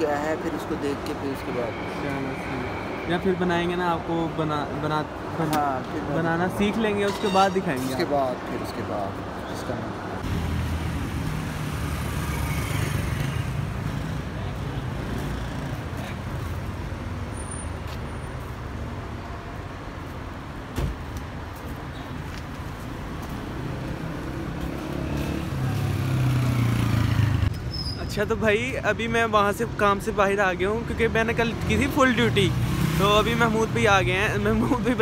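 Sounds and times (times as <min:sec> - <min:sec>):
vehicles driving past: 0:00.0 - 0:35.0.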